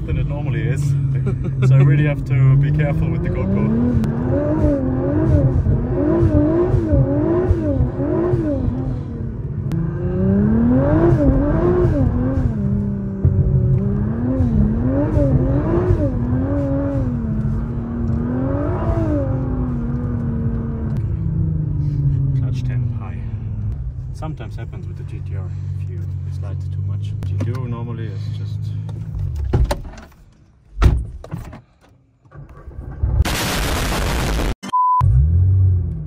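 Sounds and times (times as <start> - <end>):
car engine revving: 0.0 - 29.5, 32.3 - 36.0.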